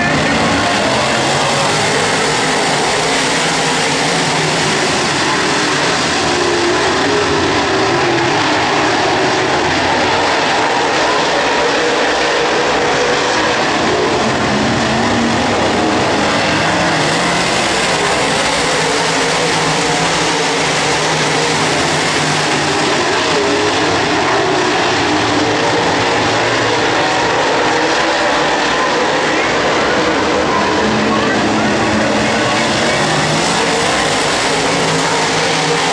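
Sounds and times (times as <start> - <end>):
race car engines droning: 0.0 - 35.9.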